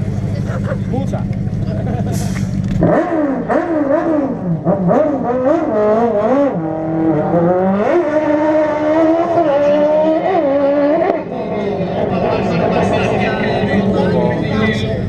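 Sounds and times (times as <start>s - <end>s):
racing engine revving: 0.0s - 15.0s.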